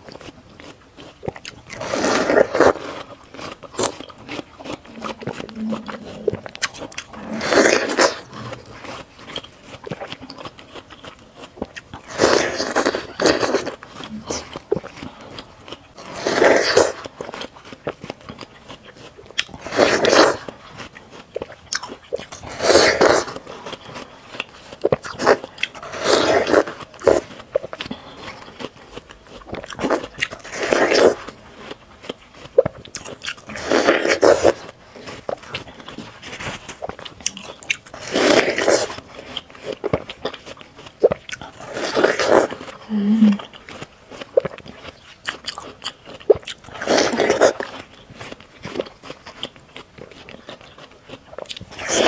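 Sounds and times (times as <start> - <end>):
chewing: 0.0 - 52.0
crisp crunch of watermelon bites: 0.0 - 52.0.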